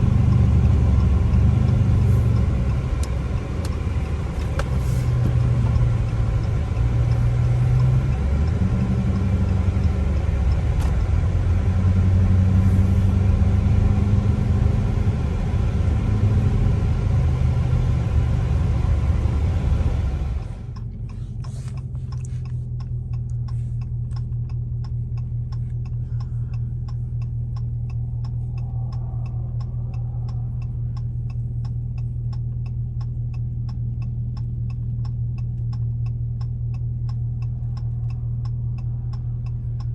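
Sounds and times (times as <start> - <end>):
car exhaust rumbling: 0.0 - 39.9
turn signal ticking: 0.0 - 39.9.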